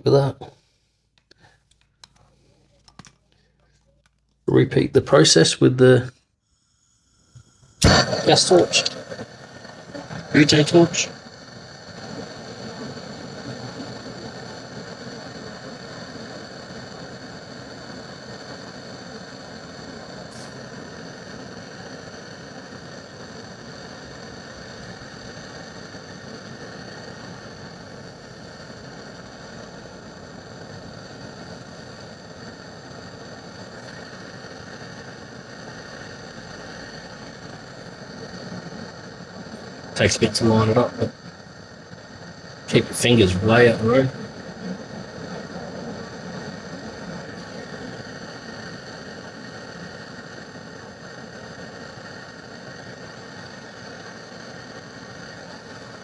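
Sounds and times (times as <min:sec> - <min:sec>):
torch hissing: 0:06.4 - 0:56.0.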